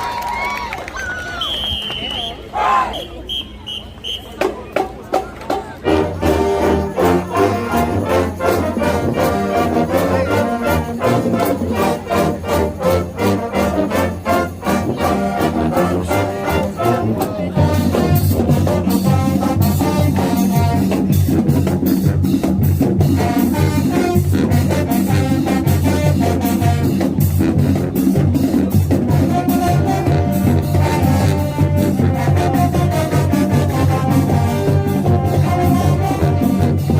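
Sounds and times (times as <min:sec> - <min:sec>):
marching band playing: 0:01.4 - 0:36.9
drums: 0:04.3 - 0:36.9
trumpets and trombones: 0:05.8 - 0:36.9.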